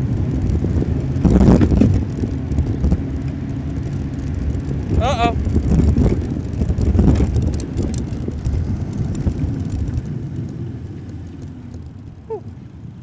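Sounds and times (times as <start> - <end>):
city traffic: 0.0 - 13.0
wind rumble: 0.0 - 13.0.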